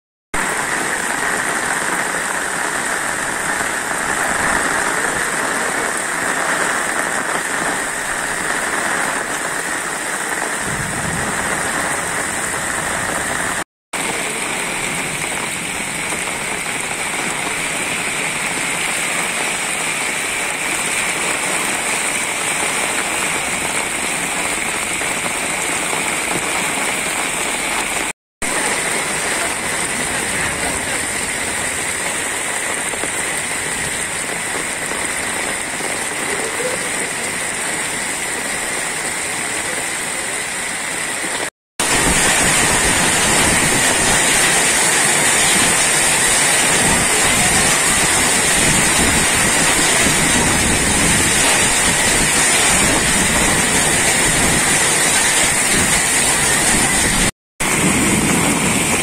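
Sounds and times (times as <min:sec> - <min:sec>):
heavy rain on flooded street: 0:00.4 - 0:59.0.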